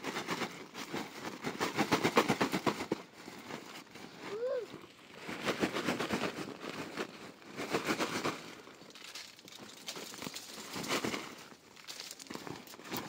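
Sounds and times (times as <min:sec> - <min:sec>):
crackling and rustling: 0:00.0 - 0:13.0.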